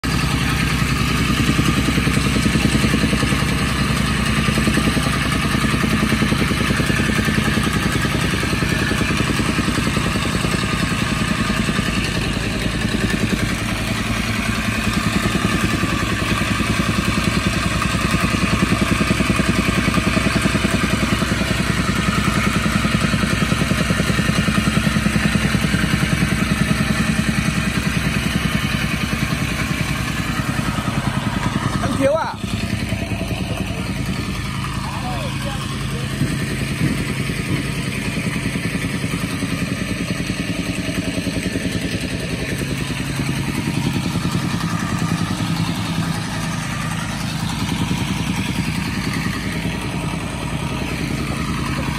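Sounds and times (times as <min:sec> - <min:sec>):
tamping rammer pounding soil: 0:00.0 - 0:51.9.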